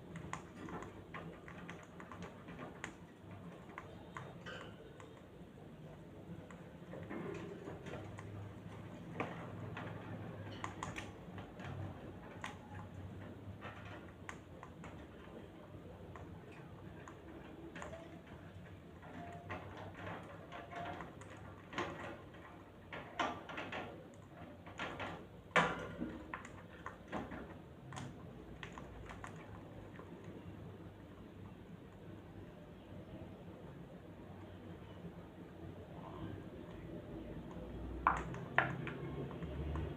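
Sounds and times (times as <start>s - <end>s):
parrots pecking and clicking: 0.0s - 30.4s, 37.4s - 39.9s.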